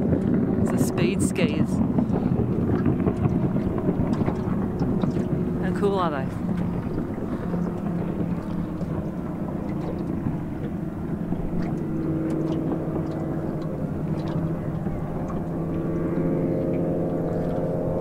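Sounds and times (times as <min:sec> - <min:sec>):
higher engine tone: 0:00.0 - 0:18.0
speedboat engines droning: 0:00.0 - 0:18.0.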